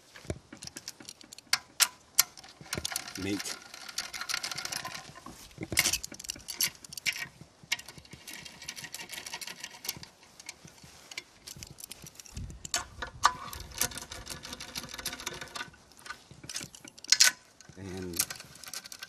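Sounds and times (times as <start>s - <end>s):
speed handle clicking metallically: 0.1s - 19.0s.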